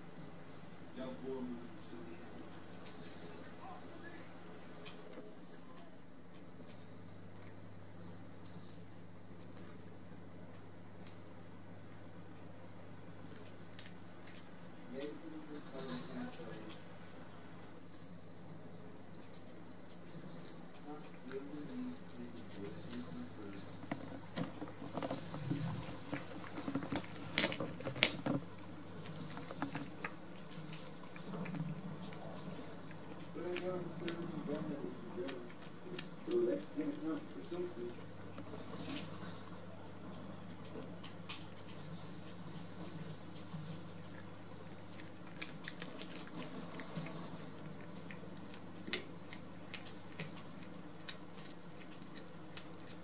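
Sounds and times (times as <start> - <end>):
cat chewing crunches: 4.6 - 53.0.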